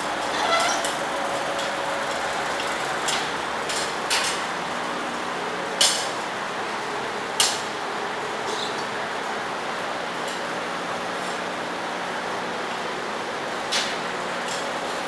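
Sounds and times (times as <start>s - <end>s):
steady machinery noise: 0.0s - 15.0s.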